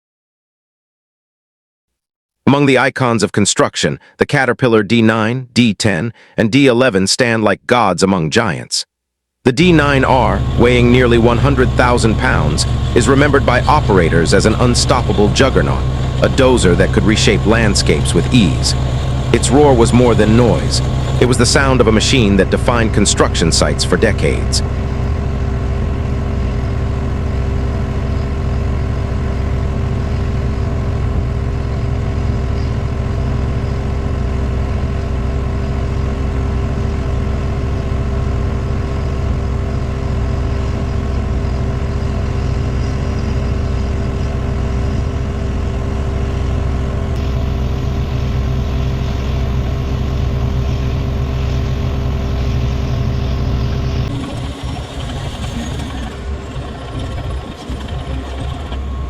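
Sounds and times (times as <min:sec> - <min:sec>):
bulldozer diesel engine running: 0:09.5 - 0:59.0.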